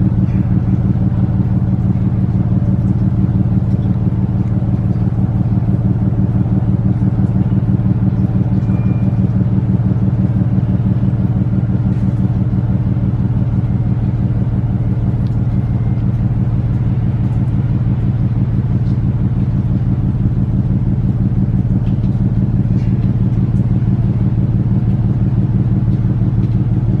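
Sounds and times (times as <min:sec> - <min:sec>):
ship diesel engines throbbing: 0:00.0 - 0:27.0.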